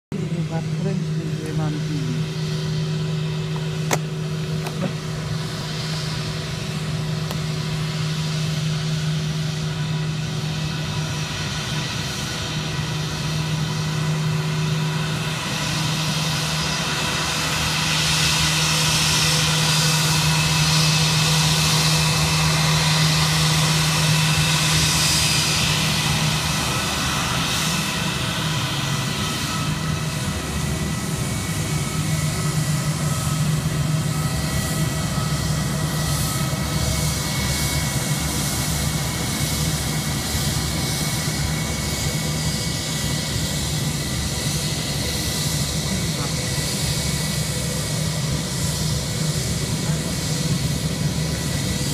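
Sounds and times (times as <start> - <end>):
jet engines whining and roaring: 0.0 - 51.9.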